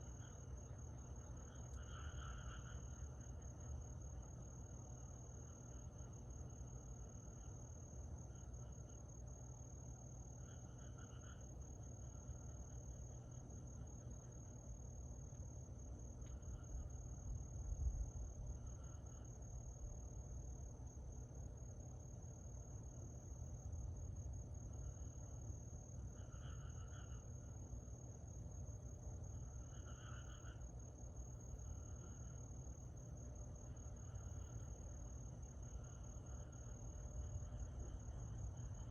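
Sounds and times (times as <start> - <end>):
crickets pulsed chirping: 0.0 - 38.9
insects trilling: 0.0 - 38.9.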